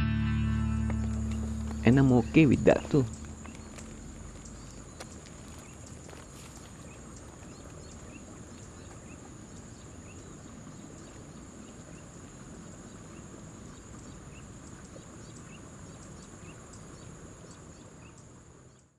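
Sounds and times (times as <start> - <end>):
short insect chirps: 1.0 - 18.8.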